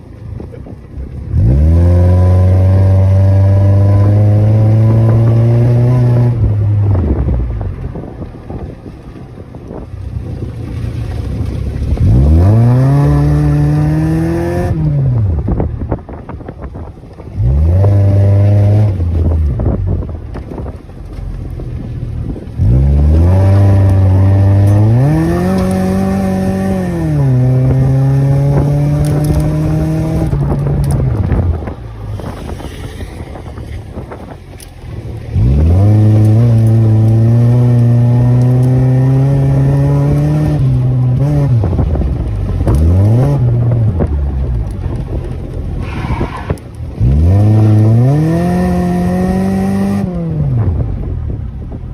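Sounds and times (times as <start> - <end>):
car engine revving: 0.0 - 9.1, 10.2 - 51.6.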